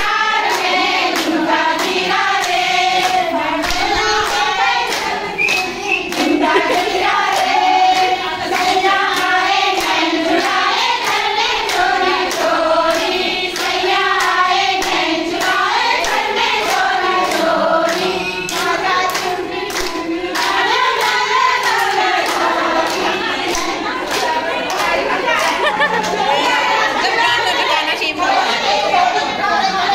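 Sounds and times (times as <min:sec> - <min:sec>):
rhythmic hand clapping: 0:00.0 - 0:28.8
women singing together: 0:00.0 - 0:29.9.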